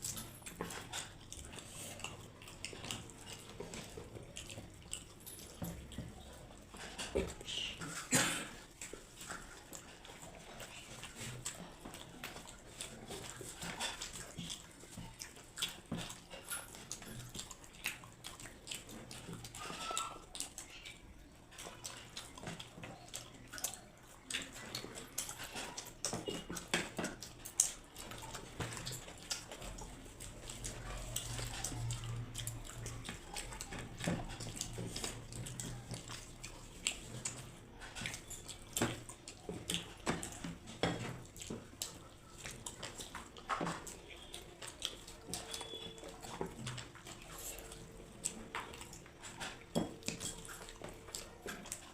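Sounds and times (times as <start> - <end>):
close chewing and lip smacks: 0.0 - 51.9.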